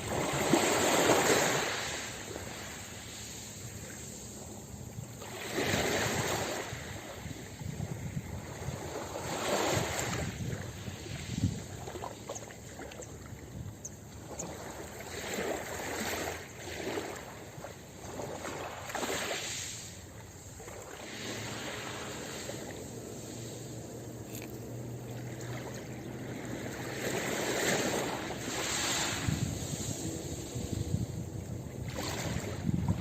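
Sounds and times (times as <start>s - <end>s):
ocean waves breaking on beach: 0.0s - 33.0s.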